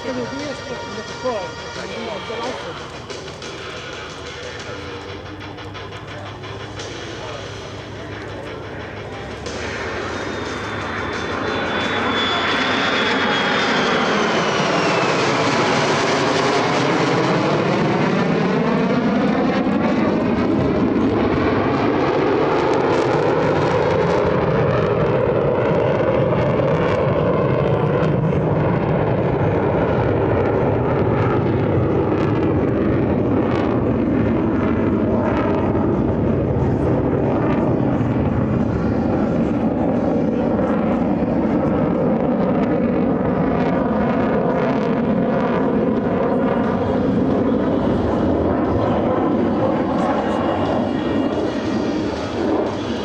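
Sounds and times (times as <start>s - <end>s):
fighter jet engine: 0.0s - 53.0s.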